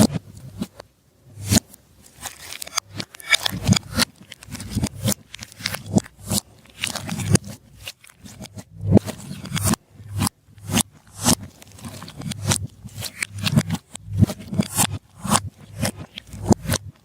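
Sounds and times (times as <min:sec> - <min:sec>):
slime kneaded by hand: 0:01.4 - 0:17.0.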